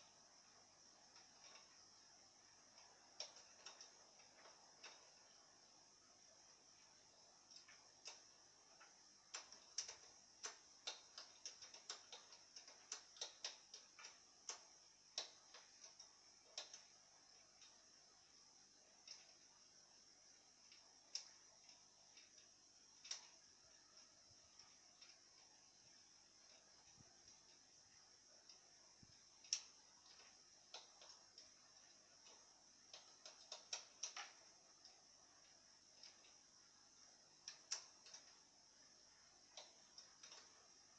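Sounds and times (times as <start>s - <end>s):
faint high hiss: 0.0s - 40.9s
faint irregular clicking: 0.0s - 40.9s.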